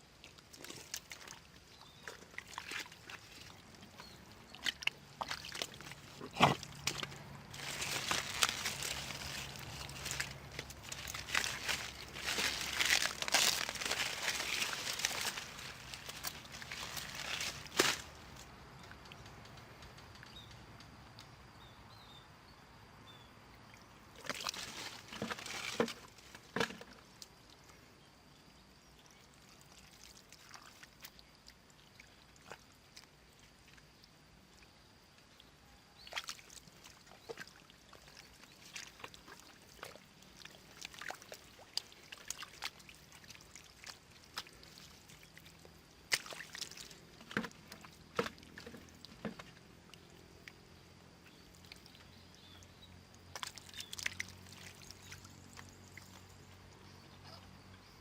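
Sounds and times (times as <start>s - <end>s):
splashing in shallow water: 0.0s - 18.5s, 23.8s - 27.6s, 29.2s - 34.7s, 36.0s - 57.7s.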